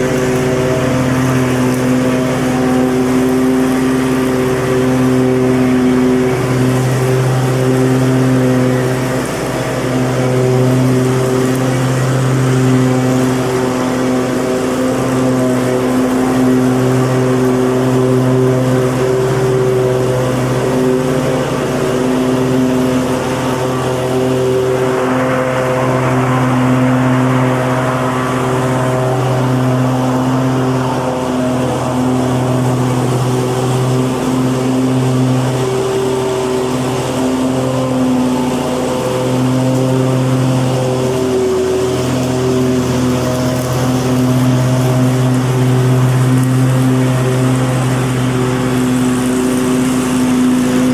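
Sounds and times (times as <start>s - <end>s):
lawnmower engine running: 0.0s - 50.9s.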